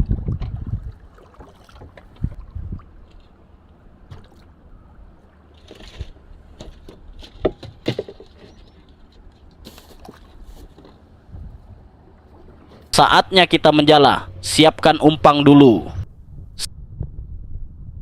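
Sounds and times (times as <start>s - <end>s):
water sloshing around boat: 0.0s - 14.5s.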